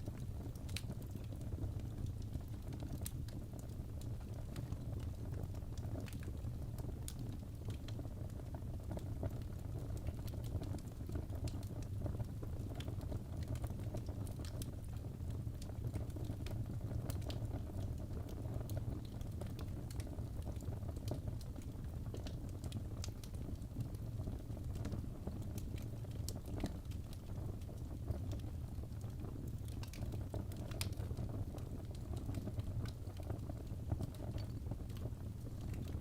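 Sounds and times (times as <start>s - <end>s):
logs crackling and popping: 0.0s - 36.0s.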